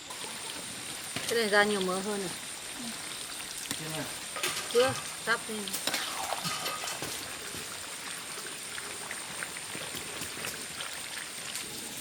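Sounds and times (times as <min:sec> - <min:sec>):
pork sizzling in fat: 0:00.0 - 0:12.0.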